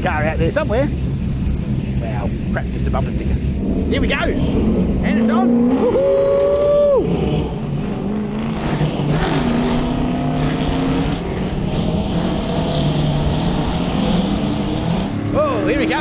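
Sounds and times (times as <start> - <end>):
racing engines running: 0.0 - 16.0.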